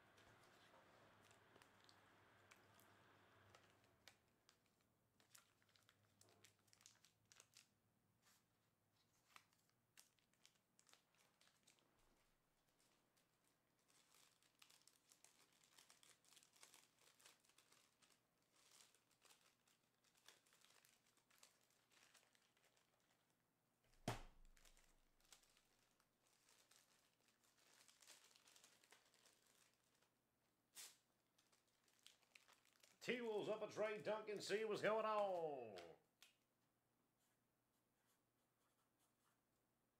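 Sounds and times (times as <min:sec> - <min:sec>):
faint rustling and crinkling: 0:00.0 - 0:33.2, 0:35.2 - 0:39.9.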